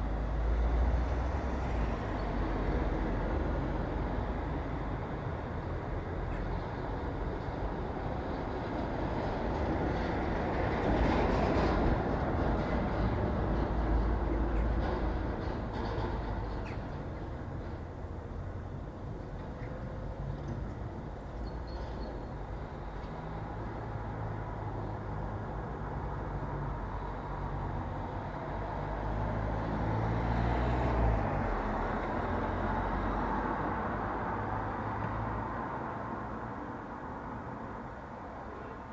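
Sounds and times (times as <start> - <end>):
road noise: 0.0 - 38.9
rumble of passing vehicles: 0.0 - 38.9.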